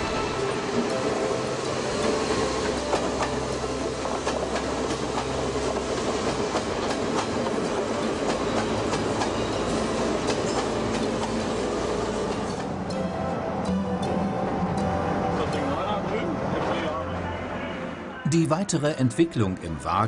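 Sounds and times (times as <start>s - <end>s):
electric train rumbling past: 0.0s - 18.8s.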